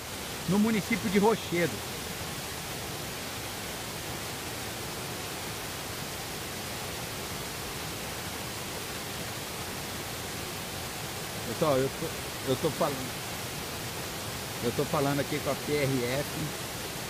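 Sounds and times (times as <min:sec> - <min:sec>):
floodwater rushing over road: 0:00.0 - 0:17.0.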